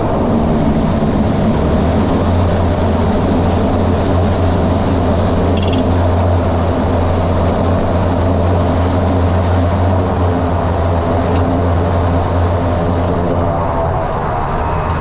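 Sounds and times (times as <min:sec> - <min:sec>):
jet engine cabin drone: 0:00.0 - 0:15.0
low hum: 0:00.0 - 0:15.0.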